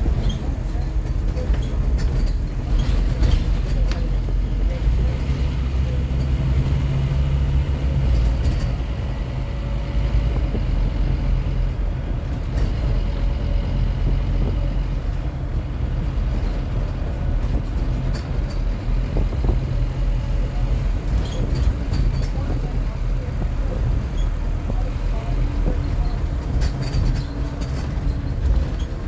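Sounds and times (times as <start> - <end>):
light clicks and rattles: 0.0 - 9.0, 10.3 - 29.0
bus diesel engine drone: 0.0 - 29.0.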